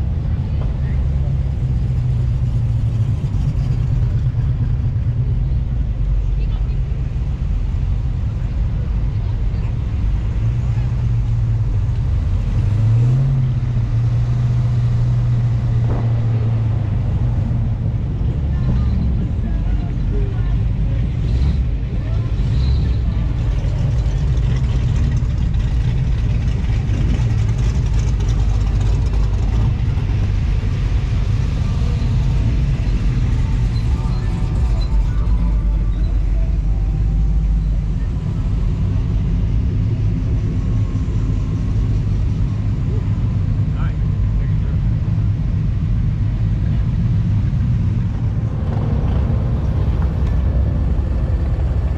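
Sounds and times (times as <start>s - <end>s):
car engine running: 0.0s - 51.9s
road noise: 0.0s - 51.9s.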